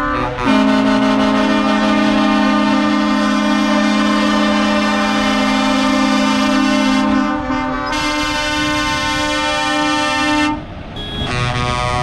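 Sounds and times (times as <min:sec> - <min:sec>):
truck air horn chord: 0:00.0 - 0:12.0.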